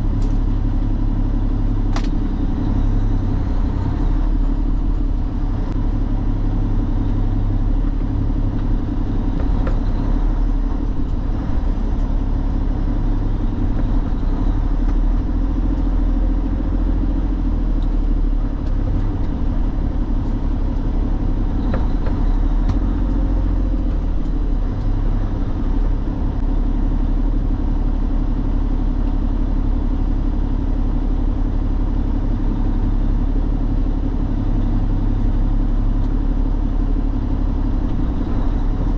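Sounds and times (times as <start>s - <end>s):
road and cab noise: 0.0s - 38.9s
truck engine rumbling: 0.0s - 38.9s.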